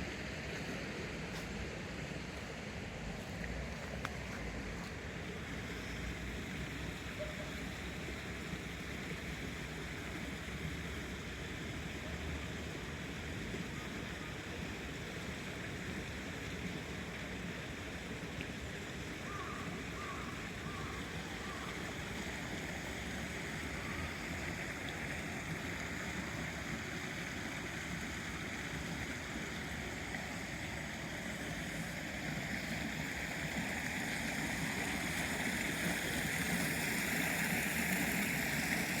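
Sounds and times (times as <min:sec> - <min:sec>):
stream water running: 0:00.0 - 0:39.0.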